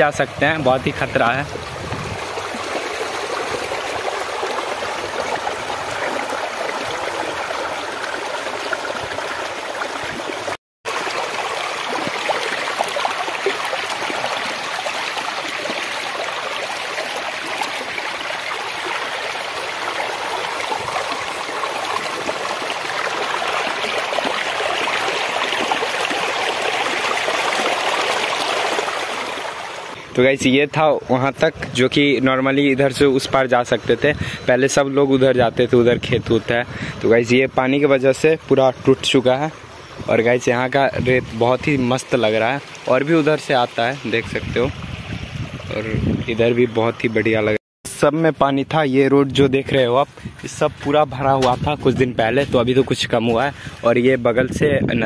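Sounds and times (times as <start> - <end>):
floodwater rushing: 0.0 - 30.2, 36.4 - 47.6, 49.7 - 54.4.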